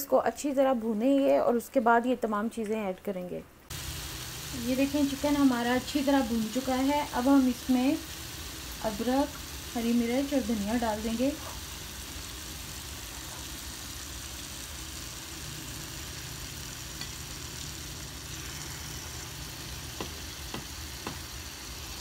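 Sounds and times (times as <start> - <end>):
food sizzling in a pan: 3.7 - 22.0.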